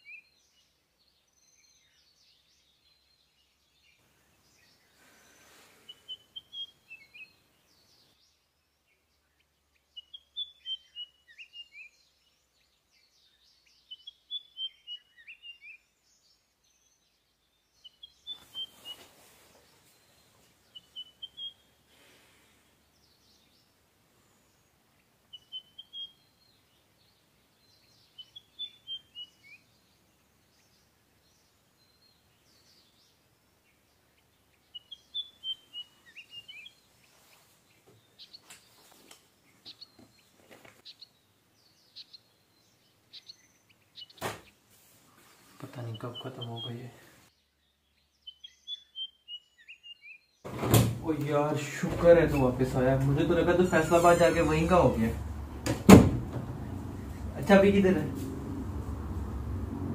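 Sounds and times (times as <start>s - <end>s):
faint background hiss: 0.0s - 49.8s
songbird chirping: 0.0s - 59.9s.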